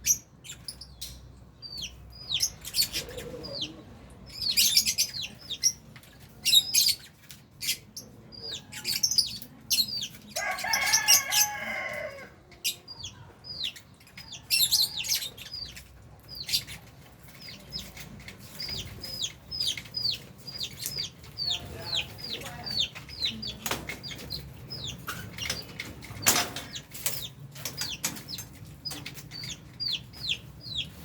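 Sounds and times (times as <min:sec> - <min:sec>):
lovebirds chirping and screeching: 0:00.0 - 0:31.0.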